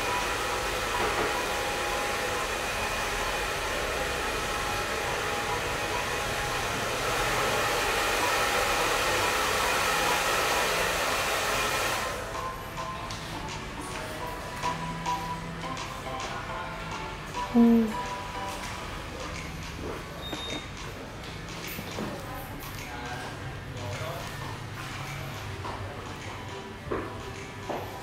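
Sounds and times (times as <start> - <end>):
faint background music: 0.0 - 28.0.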